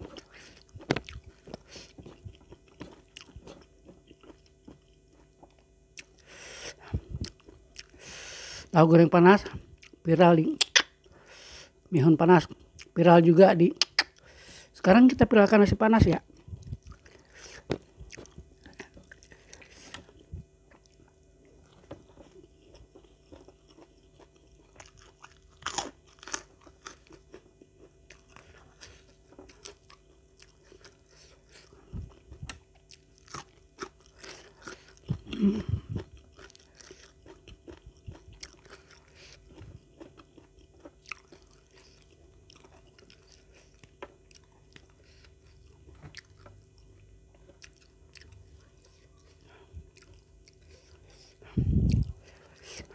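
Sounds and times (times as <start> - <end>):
chewing and crunching bean pods: 0.0 - 11.2, 15.6 - 52.9.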